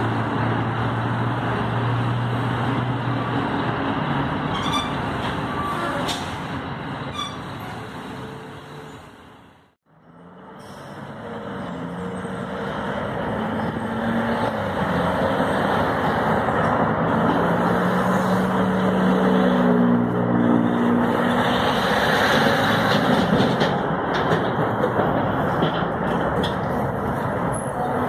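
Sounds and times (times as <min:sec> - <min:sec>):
bus approaching: 0:00.0 - 0:28.0
cars passing: 0:00.0 - 0:28.0.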